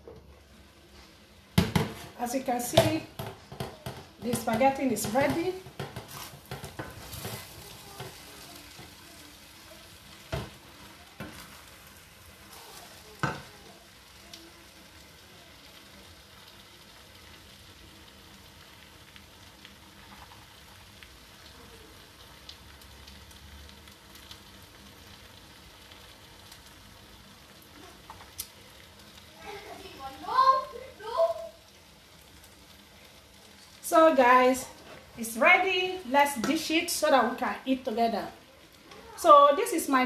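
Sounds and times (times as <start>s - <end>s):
sauce sizzling in a pot: 0.0s - 40.0s.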